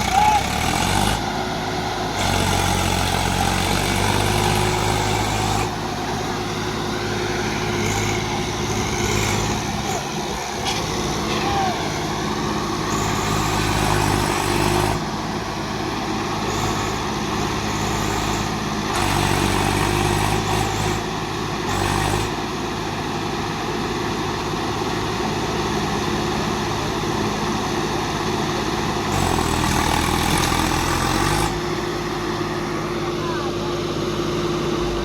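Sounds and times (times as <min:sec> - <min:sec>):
tractor diesel engines under load: 0:00.0 - 0:35.0.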